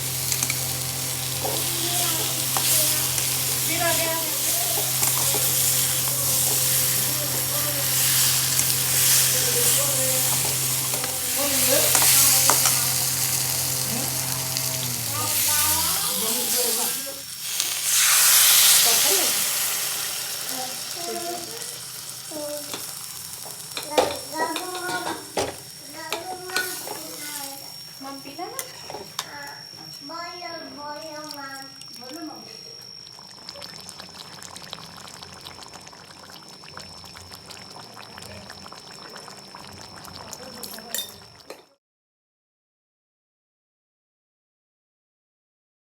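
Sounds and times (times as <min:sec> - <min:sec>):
food sizzling in frying pan: 0:00.0 - 0:41.7.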